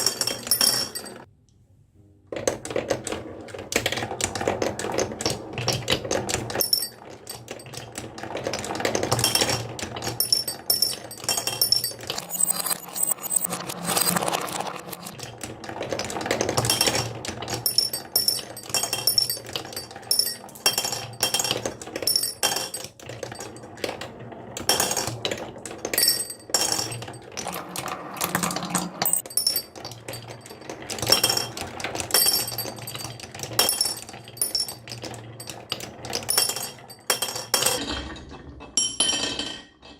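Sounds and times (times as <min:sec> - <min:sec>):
marbles clattering down a track: 0:00.0 - 0:01.3, 0:02.7 - 0:39.9.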